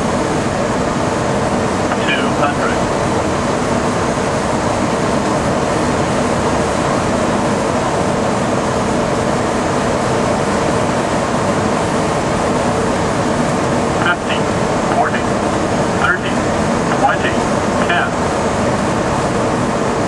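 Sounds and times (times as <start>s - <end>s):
airflow and engine noise: 0.0s - 20.0s.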